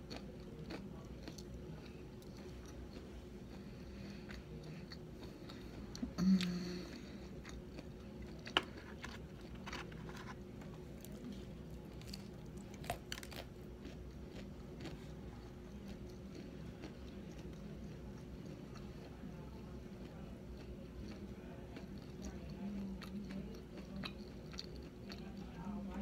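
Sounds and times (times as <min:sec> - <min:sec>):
crunching fried wontons: 0:00.0 - 0:06.0, 0:06.9 - 0:26.0.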